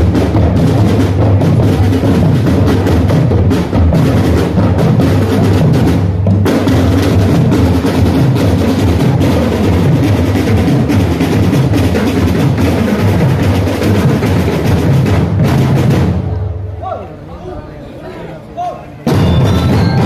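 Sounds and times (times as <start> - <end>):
bass drums beating: 0.0 - 16.4, 19.0 - 20.0
marching snare drums: 0.0 - 16.5, 19.0 - 20.0.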